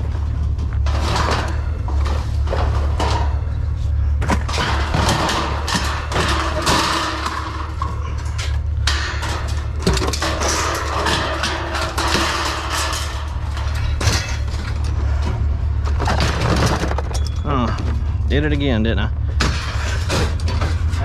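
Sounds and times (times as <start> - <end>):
engine running: 0.0 - 21.0
sheet metal clanking and scraping: 0.0 - 21.0.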